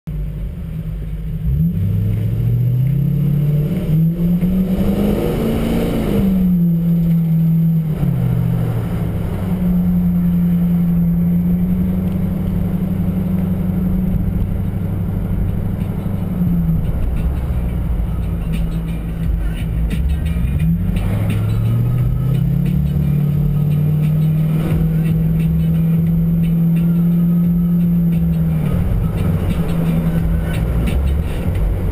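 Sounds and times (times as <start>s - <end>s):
car engine from inside cabin: 0.1s - 31.9s.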